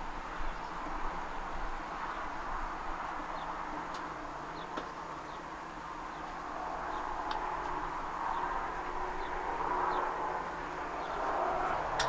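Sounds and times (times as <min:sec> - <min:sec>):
outdoor background noise: 0:00.0 - 0:12.0
small birds chirping: 0:00.2 - 0:12.0.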